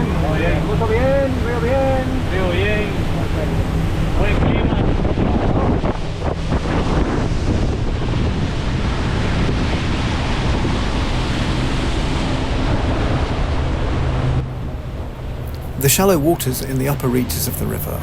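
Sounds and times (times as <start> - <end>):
outboard engine drone: 0.0 - 18.0
water rushing past boat: 0.0 - 18.0
wind buffeting microphone: 0.0 - 18.0.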